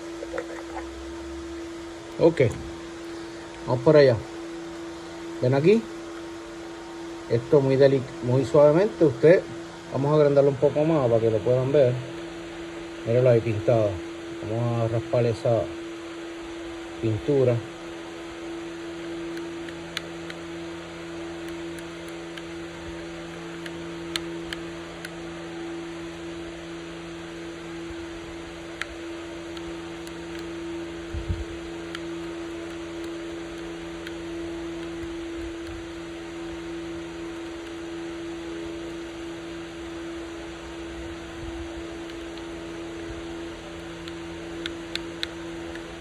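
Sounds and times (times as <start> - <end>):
machine hum: 0.0 - 46.0.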